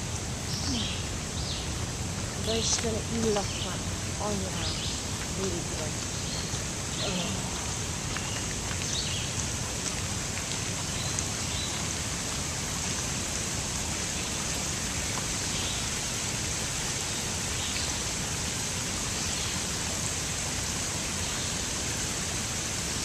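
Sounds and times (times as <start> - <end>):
water trickling over rocks: 0.0 - 23.0.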